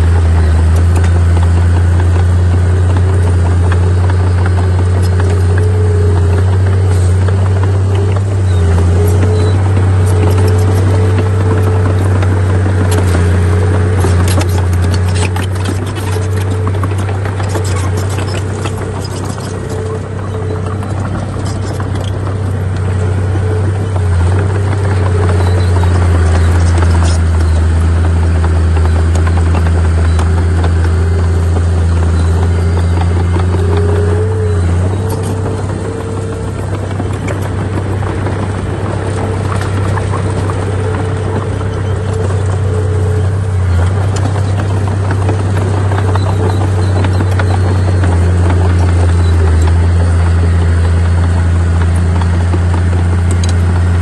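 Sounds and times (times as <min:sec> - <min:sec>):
heavy machinery diesel engine droning: 0:00.0 - 0:54.0.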